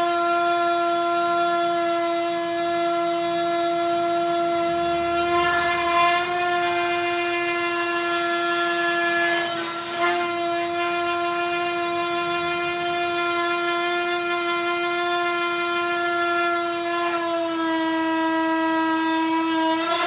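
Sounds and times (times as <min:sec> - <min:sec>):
electric sander motor whine: 0:00.0 - 0:20.0.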